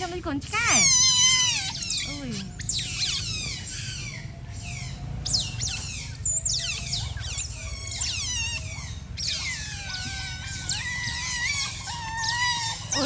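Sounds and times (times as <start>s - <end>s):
otter chirping squeaks: 0.0s - 13.0s.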